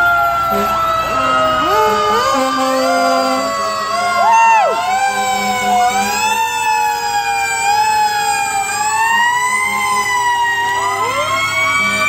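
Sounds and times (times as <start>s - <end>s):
fire engine sirens wailing: 0.0s - 12.0s.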